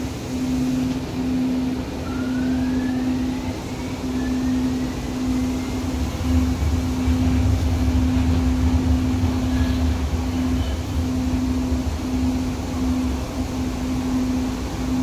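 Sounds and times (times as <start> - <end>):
steady hum: 0.0 - 15.0
thin motor whine: 0.0 - 15.0
wheel-on-rail rumble: 0.0 - 15.0.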